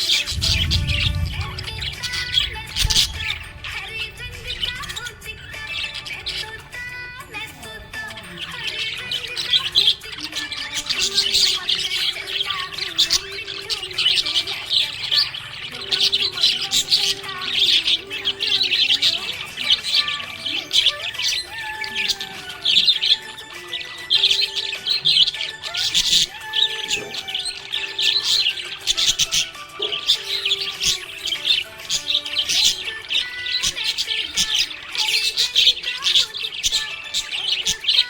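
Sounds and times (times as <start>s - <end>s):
budgerigar chirping and warbling: 0.0s - 38.0s.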